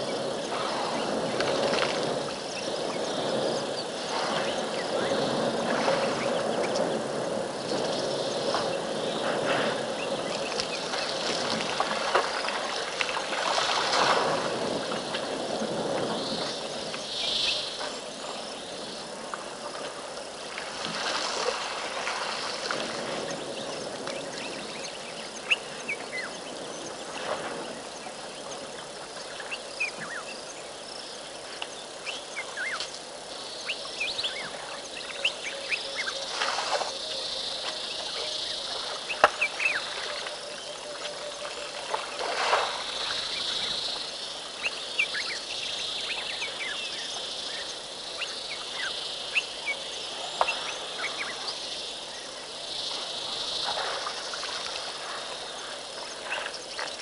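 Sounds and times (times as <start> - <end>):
birds chirping: 0.0 - 13.3, 21.9 - 57.0
steady outdoor hiss: 0.0 - 57.0.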